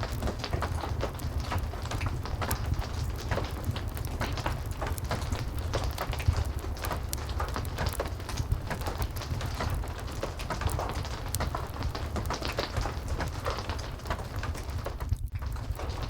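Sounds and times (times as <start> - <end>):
fireplace crackling: 0.0 - 16.0
heavy rain falling: 0.0 - 16.0.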